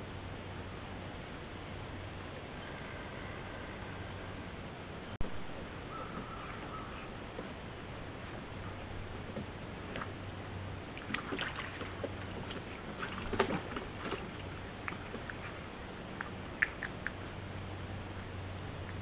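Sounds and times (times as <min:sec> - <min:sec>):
steady hiss with low hum: 0:00.0 - 0:19.0.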